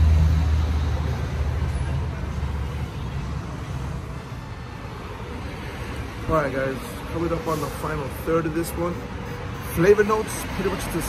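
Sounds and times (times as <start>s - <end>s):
steady traffic noise: 0.0s - 11.0s
vehicle passing rumble: 0.0s - 11.0s.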